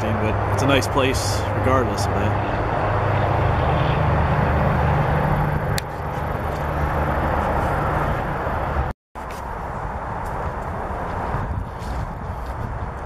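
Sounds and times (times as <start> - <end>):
distant highway traffic: 0.0 - 13.0.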